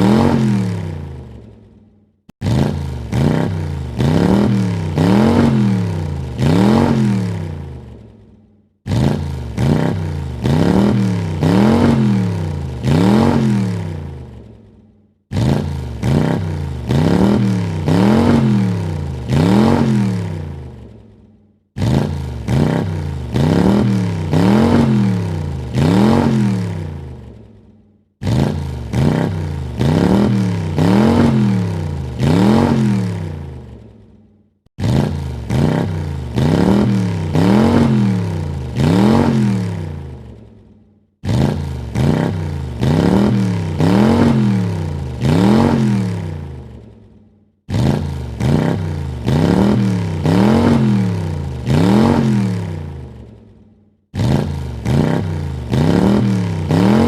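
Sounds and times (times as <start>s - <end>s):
car engine revving: 0.0s - 1.6s, 2.4s - 8.2s, 8.8s - 14.6s, 15.3s - 21.0s, 21.8s - 27.6s, 28.2s - 33.9s, 34.8s - 40.4s, 41.2s - 46.9s, 47.7s - 53.4s, 54.2s - 57.0s.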